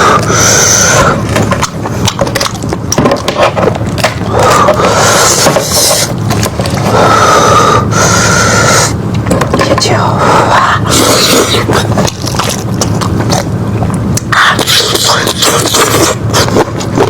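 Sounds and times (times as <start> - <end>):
noisy slurps: 0.0 - 9.0, 10.5 - 17.0
person chewing meat: 0.0 - 9.3, 10.6 - 17.0.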